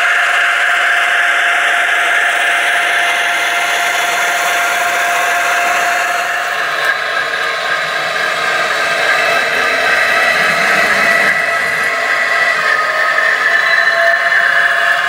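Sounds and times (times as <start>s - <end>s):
model locomotive whirring: 0.0s - 15.0s.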